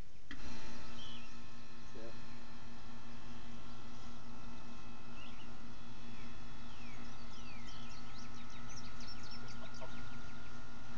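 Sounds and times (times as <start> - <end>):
birds chirping: 0.0 - 2.2, 3.0 - 10.9
low hum: 0.0 - 10.9.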